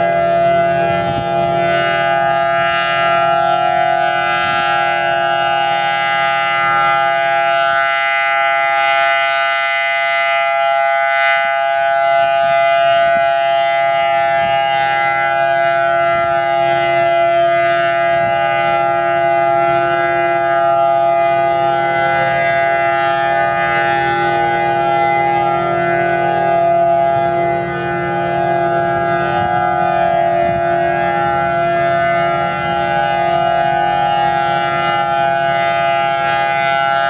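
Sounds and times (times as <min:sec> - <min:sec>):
warning siren steady tone: 0:00.0 - 0:37.0.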